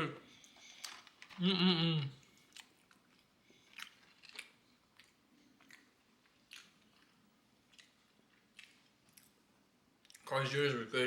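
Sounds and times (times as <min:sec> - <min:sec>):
chewing french fries: 0:00.4 - 0:10.4.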